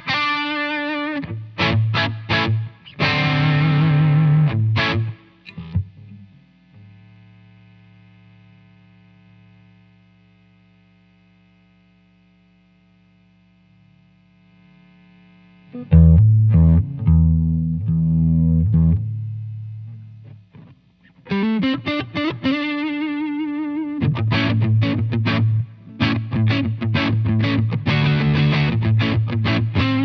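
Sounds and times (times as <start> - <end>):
overdriven electric guitar: 0.0 - 11.6, 13.8 - 30.0.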